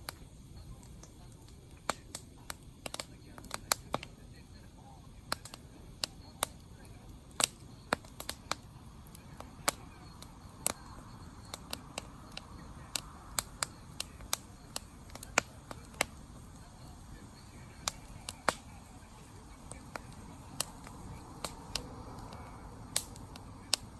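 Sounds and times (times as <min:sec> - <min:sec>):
campfire pops: 0:00.0 - 0:23.9
flames rushing: 0:00.0 - 0:23.9.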